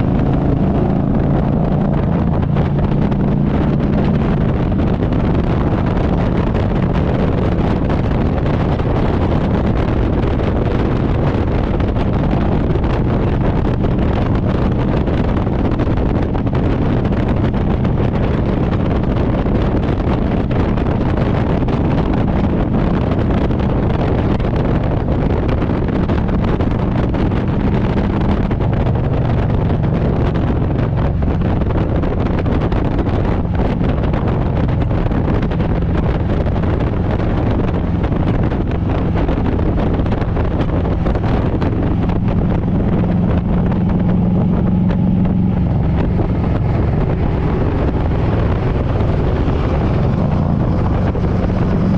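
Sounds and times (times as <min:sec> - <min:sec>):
motorcycle engine running: 0:00.0 - 0:51.9
wind rush on microphone: 0:00.0 - 0:51.9.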